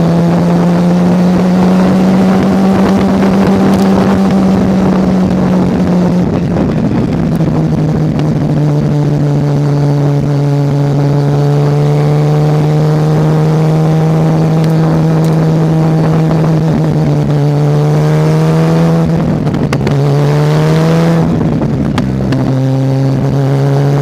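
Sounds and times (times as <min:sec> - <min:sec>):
rotary engine revving high: 0:00.0 - 0:24.0.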